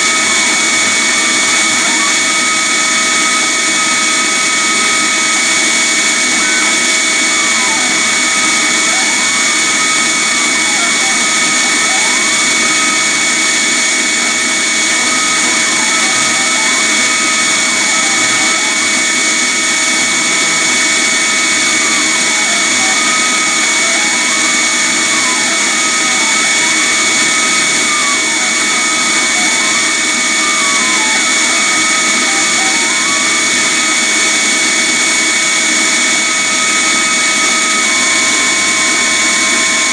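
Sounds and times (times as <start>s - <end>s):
machine motor whine: 0.0s - 39.9s
vacuum running: 0.0s - 39.9s.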